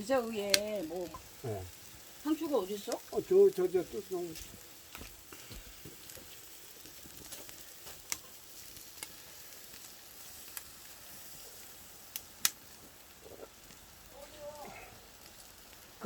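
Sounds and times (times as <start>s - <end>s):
fire popping: 0.0s - 16.0s
meat sizzling on a grill: 0.0s - 16.0s.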